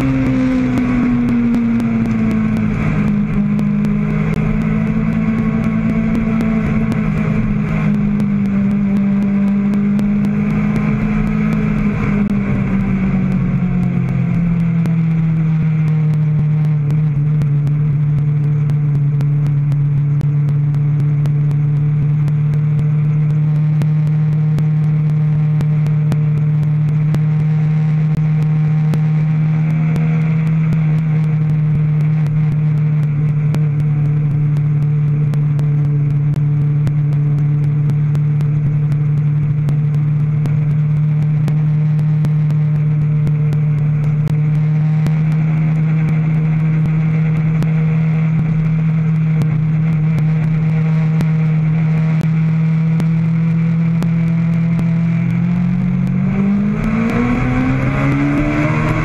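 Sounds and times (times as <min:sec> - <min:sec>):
microphone crackle: 0:00.0 - 0:59.0
race car engine running hard: 0:00.0 - 0:59.0
wind noise: 0:00.0 - 0:59.0.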